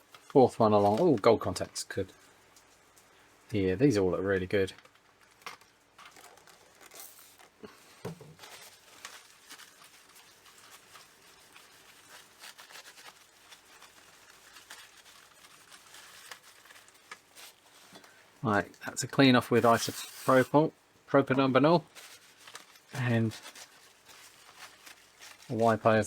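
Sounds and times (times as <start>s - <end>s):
faint rustling and rubbing: 0.0s - 26.0s.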